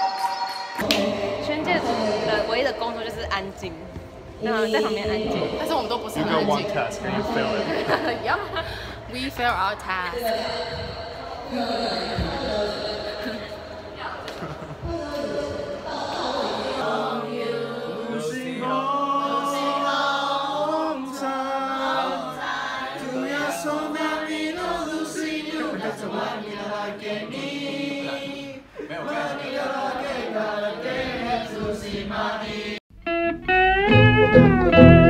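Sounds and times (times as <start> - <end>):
choir singing: 0.0 - 32.8.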